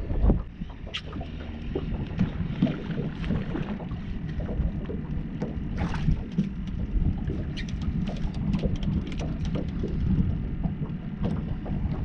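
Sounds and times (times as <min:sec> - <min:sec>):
water moving against a boat: 0:00.0 - 0:12.0
wind rumbling on microphone: 0:00.0 - 0:12.0.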